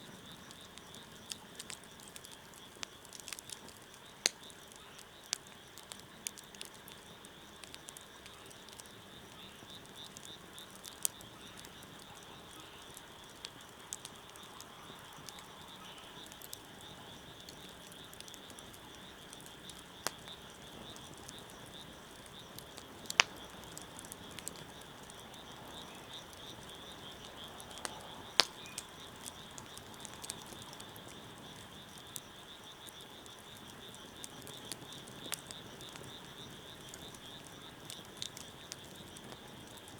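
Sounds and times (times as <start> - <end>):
sharp fire pops and snaps: 0.0 - 39.9
wood fire crackling: 0.0 - 39.9.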